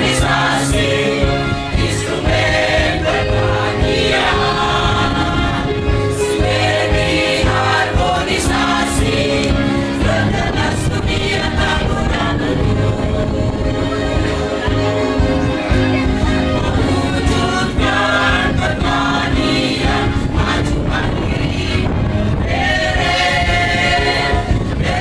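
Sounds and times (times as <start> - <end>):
mixed choir singing a march: 0.0 - 25.0.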